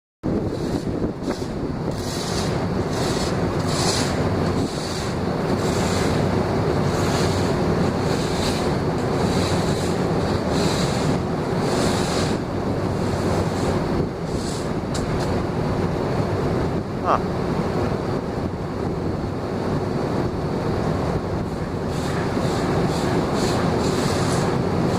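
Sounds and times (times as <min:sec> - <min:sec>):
continuous rushing noise: 0:00.2 - 0:24.9
machinery hum: 0:00.2 - 0:24.9
wind buffeting microphone: 0:00.2 - 0:24.9.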